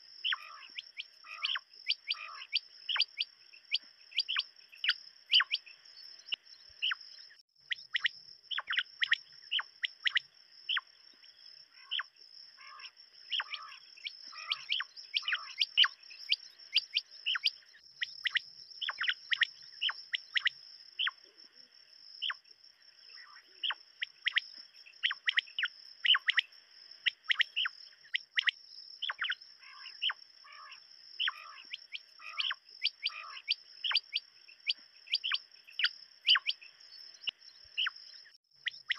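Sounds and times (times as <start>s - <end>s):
quail chirping: 0.2s - 7.0s, 7.7s - 10.9s, 11.7s - 21.3s, 23.1s - 36.6s, 37.2s - 38.9s.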